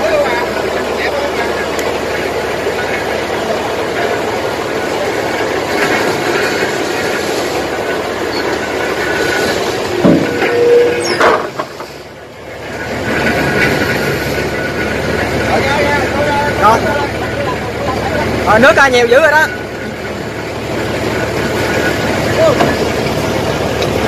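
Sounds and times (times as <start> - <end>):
diesel engine knocking: 0.0 - 24.0.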